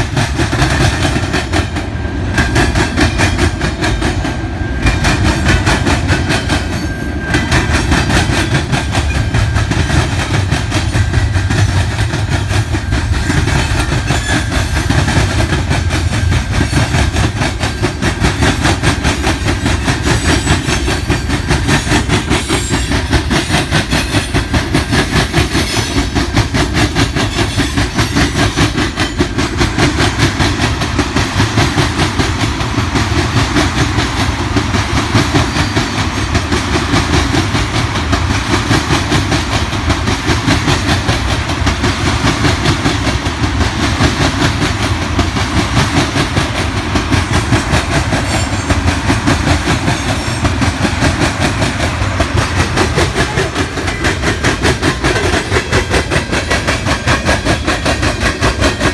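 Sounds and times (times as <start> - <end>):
steel train wheels clattering on rails: 0.0 - 58.9.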